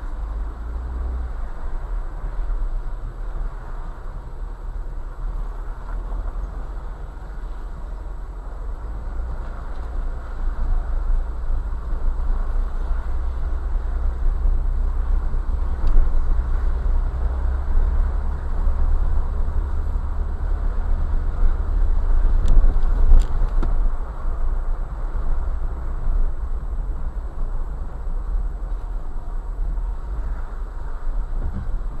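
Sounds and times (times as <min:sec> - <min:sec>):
engine rumble: 0:00.0 - 0:32.0.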